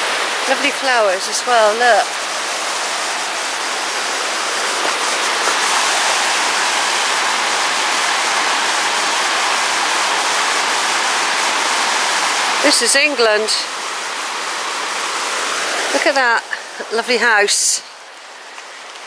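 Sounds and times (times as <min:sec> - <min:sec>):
river tumbling over boulders: 0:00.0 - 0:19.0.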